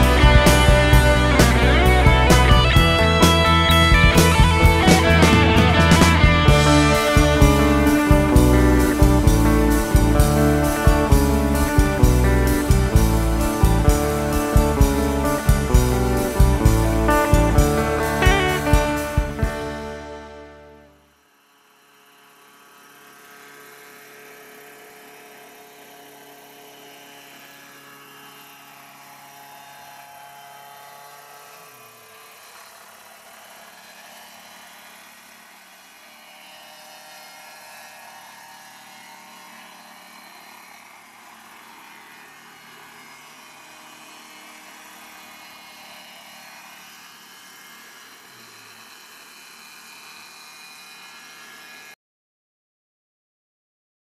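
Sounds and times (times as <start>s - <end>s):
helicopter engine and rotors whining: 0.0s - 21.0s, 22.1s - 51.9s.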